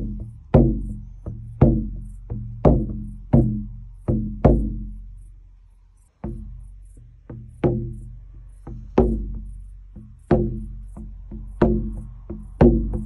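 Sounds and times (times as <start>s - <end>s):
frame drum booming: 0.0s - 5.0s, 6.2s - 13.0s.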